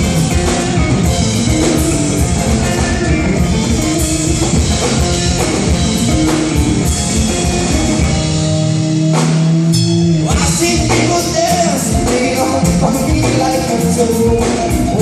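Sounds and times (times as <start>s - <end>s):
bass guitar: 0.0s - 15.0s
drum kit beat: 0.0s - 15.0s
electric guitar: 0.0s - 15.0s
rock band playing: 0.0s - 15.0s.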